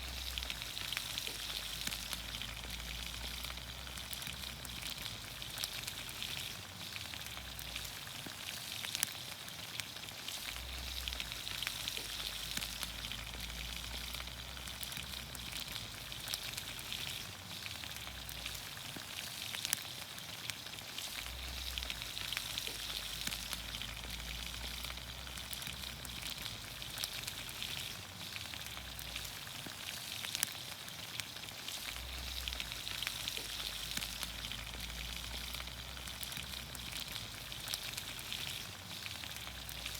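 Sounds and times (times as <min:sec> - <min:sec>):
vegetables sizzling in a pan: 0:00.0 - 0:39.9.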